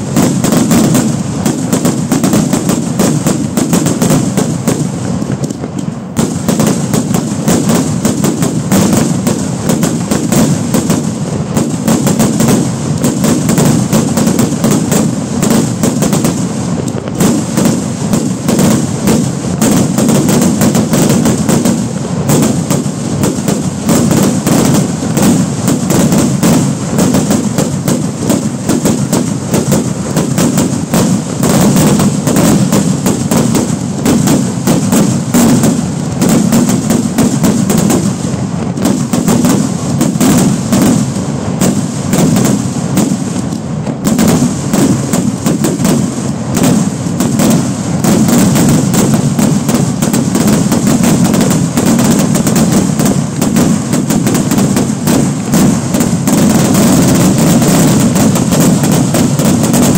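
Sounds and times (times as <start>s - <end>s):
fireworks barrage: 0.0s - 59.9s.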